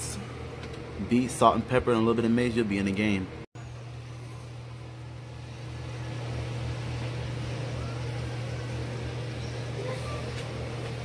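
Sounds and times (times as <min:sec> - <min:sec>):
oven humming: 0:00.0 - 0:11.0.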